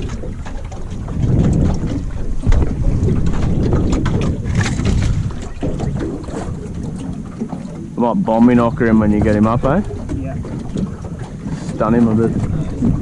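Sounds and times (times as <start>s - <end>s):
water noise around boat: 0.0s - 13.0s
wind buffeting microphone: 0.0s - 13.0s.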